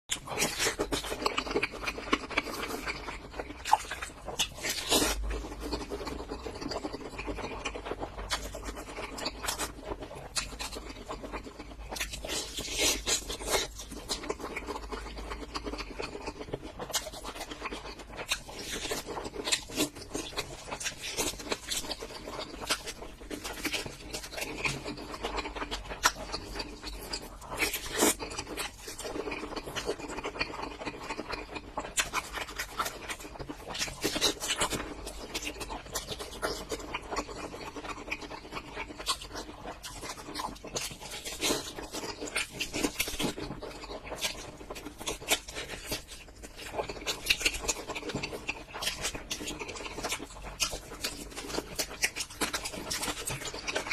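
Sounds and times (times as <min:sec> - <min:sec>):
chewing and crunching food: 0:00.0 - 0:53.9
wet mouth sounds: 0:00.1 - 0:53.9.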